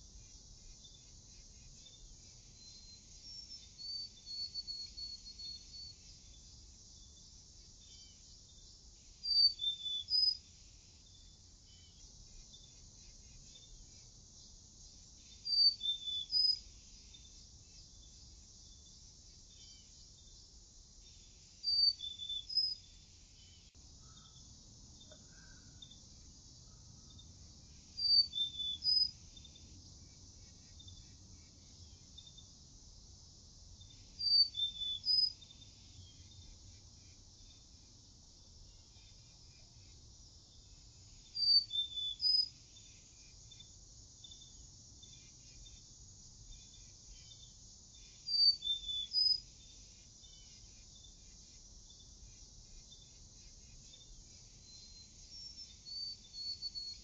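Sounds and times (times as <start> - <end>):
insect hiss: 0.0 - 57.0.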